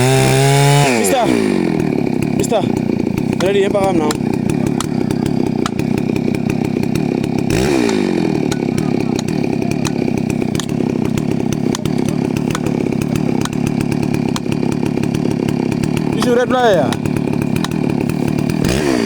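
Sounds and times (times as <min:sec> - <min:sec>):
chainsaw cutting into a tree: 0:00.0 - 0:19.0.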